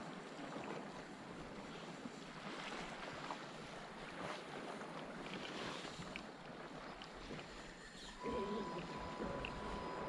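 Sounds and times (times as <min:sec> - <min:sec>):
small waves lapping against hull: 0:00.0 - 0:10.0.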